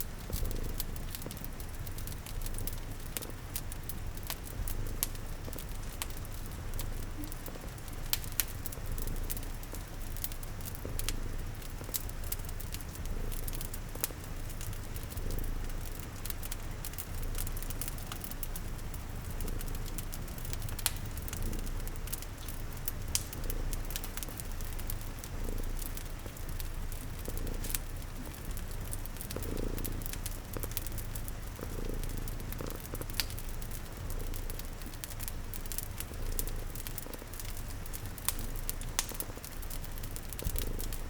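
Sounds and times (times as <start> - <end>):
cat purring: 0.0 - 41.0
crackling fire with pops: 0.0 - 41.0.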